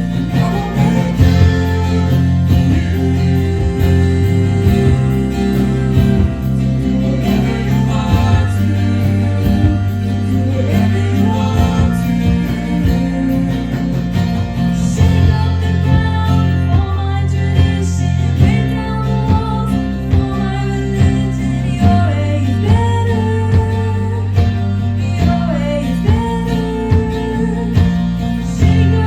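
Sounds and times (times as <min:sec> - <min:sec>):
band playing worship song: 0:00.0 - 0:29.0
voices singing: 0:00.0 - 0:29.0.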